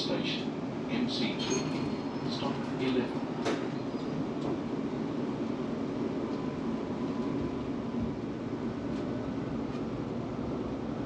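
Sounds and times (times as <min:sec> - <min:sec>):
tram rumble and hum: 0:00.0 - 0:11.0.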